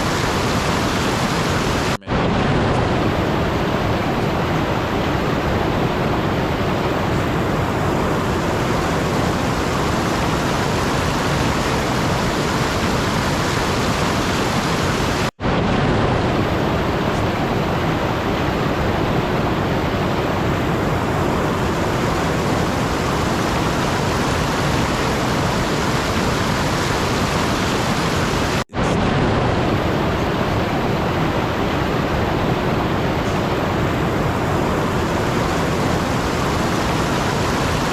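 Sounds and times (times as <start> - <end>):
steady rushing noise: 0.0 - 37.9.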